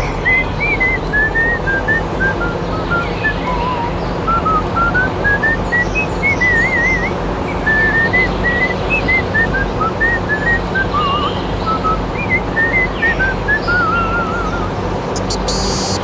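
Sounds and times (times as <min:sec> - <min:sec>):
steady noisy hum: 0:00.0 - 0:16.0
whistled melody with trills: 0:00.0 - 0:16.0.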